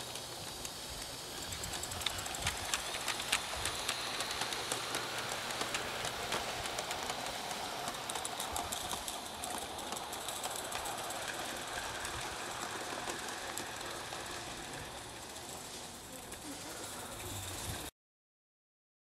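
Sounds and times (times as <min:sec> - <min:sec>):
steam hissing: 0:00.0 - 0:17.9
wheels clicking on track: 0:00.0 - 0:17.9.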